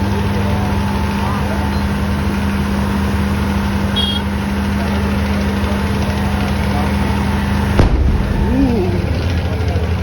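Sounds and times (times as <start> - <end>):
engine running with low hum: 0.0 - 10.0.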